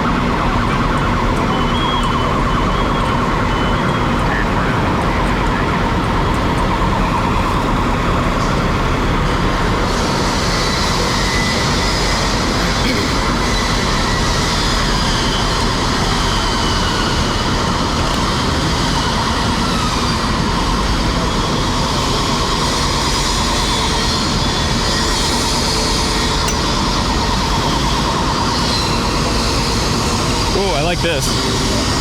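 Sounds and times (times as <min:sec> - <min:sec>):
fire truck engines and pumps rumbling: 0:00.0 - 0:32.0.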